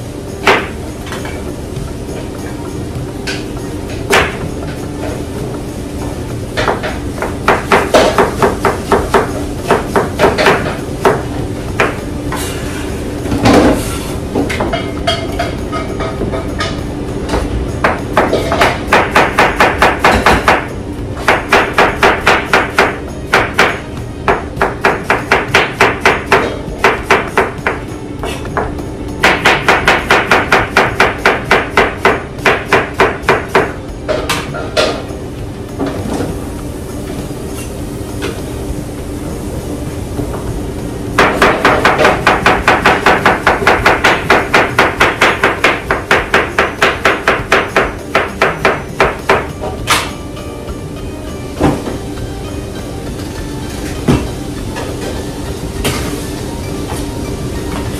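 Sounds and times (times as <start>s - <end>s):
steady hum: 0.0s - 57.9s.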